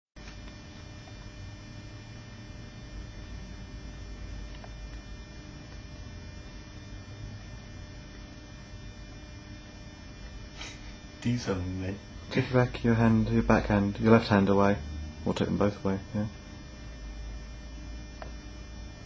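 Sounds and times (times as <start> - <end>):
low electrical hum: 0.2 - 19.0.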